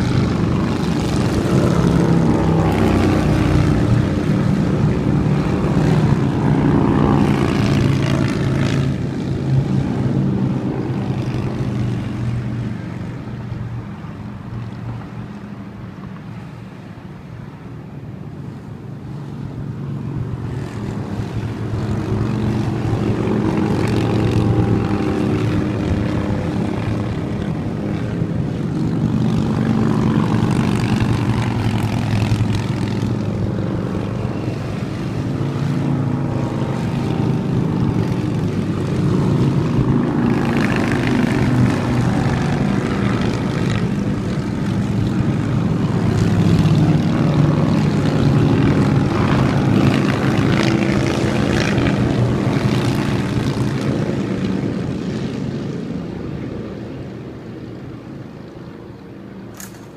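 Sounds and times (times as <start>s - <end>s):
motorcycles riding past: 0.0s - 59.9s.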